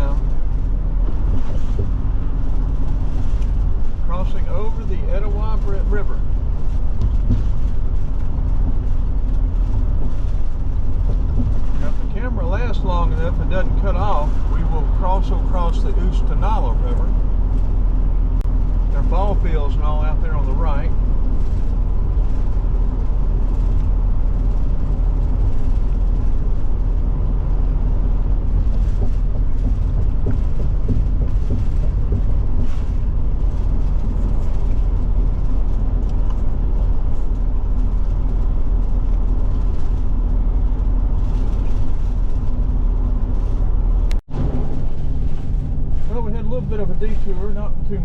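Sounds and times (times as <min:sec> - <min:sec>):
engine and tyre rumble in cab: 0:00.0 - 0:48.0.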